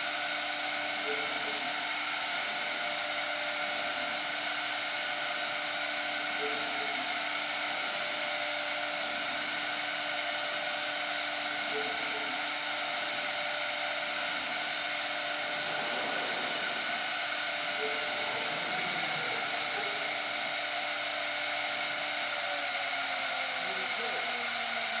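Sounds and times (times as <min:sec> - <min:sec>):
blower hissing: 0:00.0 - 0:25.0
motor whine: 0:00.0 - 0:25.0.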